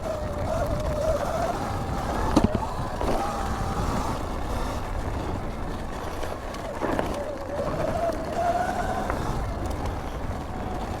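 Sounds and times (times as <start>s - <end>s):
electric motorbike motor whining: 0.0s - 11.0s
tyre noise on dirt: 0.0s - 11.0s
wind rumble on microphone: 0.0s - 11.0s.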